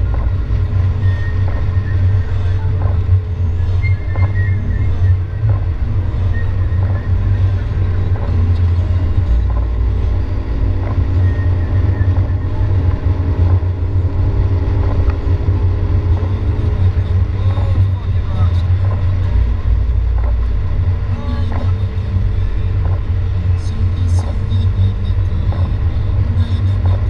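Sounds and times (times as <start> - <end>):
rain tapping on windshield: 0.0 - 27.0
road and engine rumble: 0.0 - 27.0.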